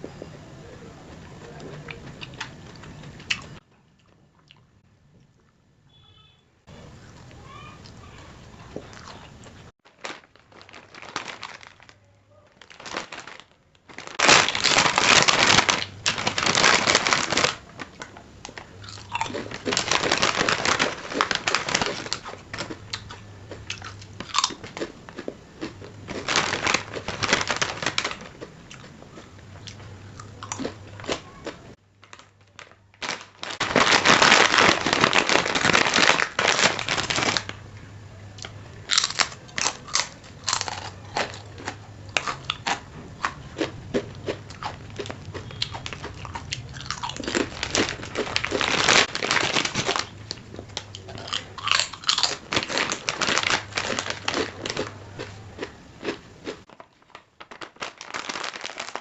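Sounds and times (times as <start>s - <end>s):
crunchy snacks being eaten: 1.5s - 4.6s, 7.1s - 37.6s, 38.3s - 59.0s
plastic packaging crinkling: 9.8s - 37.7s, 38.4s - 59.0s.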